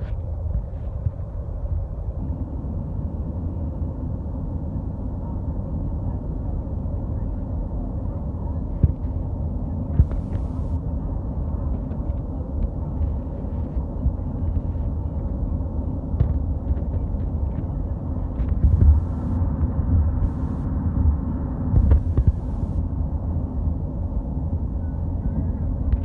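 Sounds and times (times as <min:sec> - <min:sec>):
car road rumble: 0:00.0 - 0:26.0.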